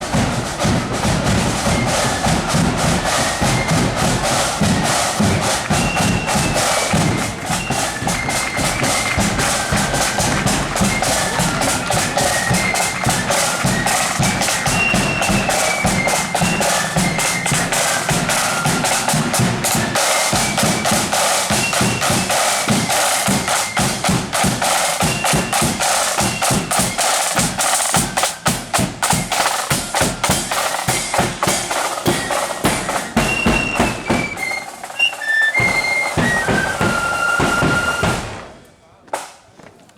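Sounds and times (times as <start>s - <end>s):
snare drumming: 0.0s - 39.4s.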